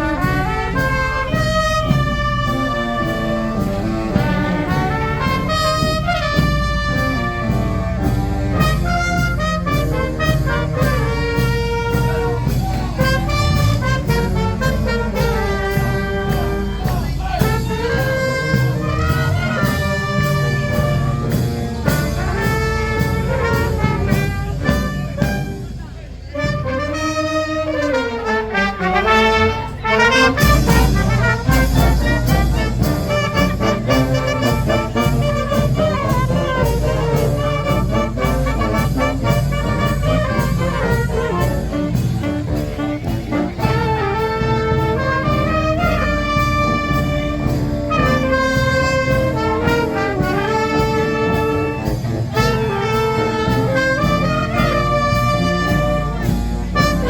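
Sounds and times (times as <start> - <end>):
brass band playing a march: 0.0 - 57.0.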